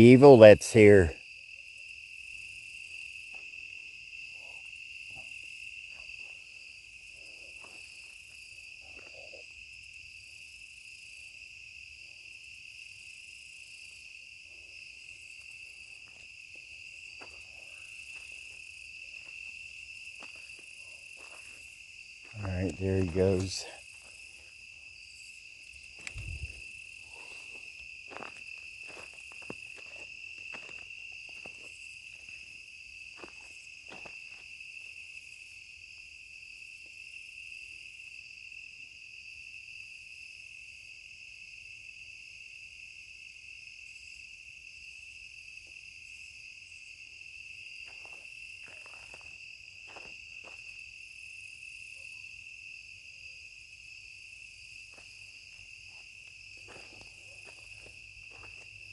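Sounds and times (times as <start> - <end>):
night insects trilling: 0.0 - 58.9.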